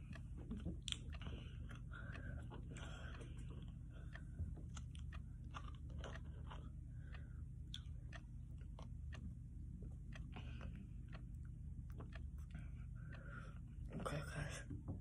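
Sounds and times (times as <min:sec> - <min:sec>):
chewing and mouth sounds: 0:00.0 - 0:13.5
steady low hum: 0:00.0 - 0:15.0.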